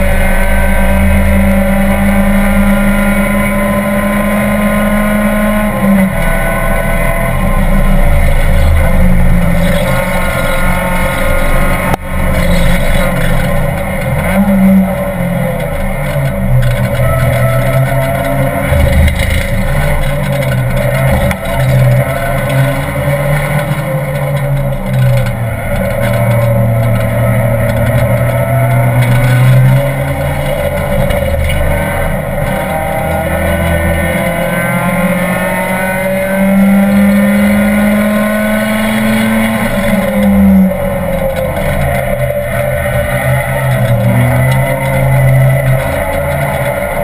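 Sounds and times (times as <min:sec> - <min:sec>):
race car engine revving: 0:00.0 - 0:47.0
wind and road noise: 0:00.0 - 0:47.0.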